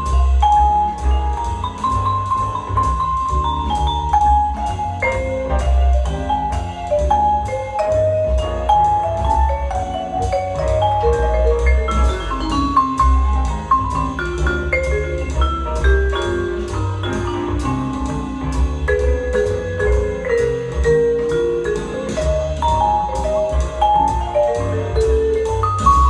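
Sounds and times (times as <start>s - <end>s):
music through small speakers: 0.0s - 26.0s.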